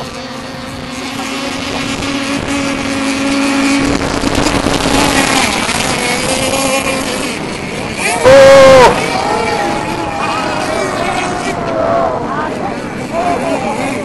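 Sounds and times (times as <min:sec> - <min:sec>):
model boat engines buzzing: 0:00.0 - 0:14.0.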